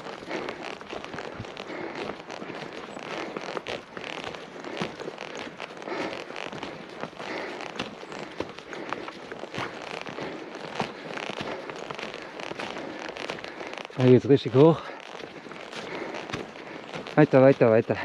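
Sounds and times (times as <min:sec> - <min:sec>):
footsteps crunching through snow: 0:00.0 - 0:18.0.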